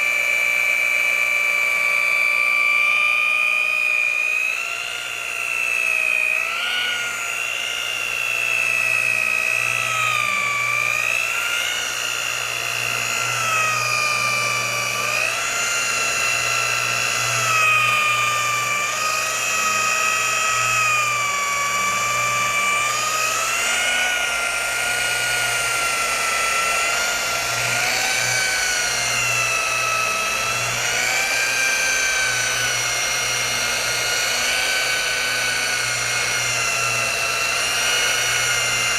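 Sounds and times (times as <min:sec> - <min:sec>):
rotary polisher whining: 0:00.0 - 0:38.9.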